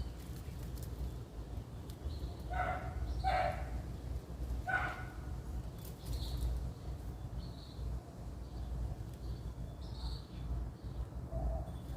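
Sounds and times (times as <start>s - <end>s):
small bird chirping: 0.0s - 3.7s, 5.7s - 11.9s.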